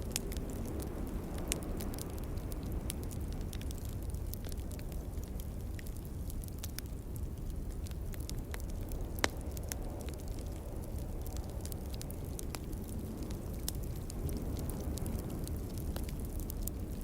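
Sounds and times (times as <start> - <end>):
steady low rumble: 0.0 - 17.0
wood fire crackling: 0.0 - 17.0.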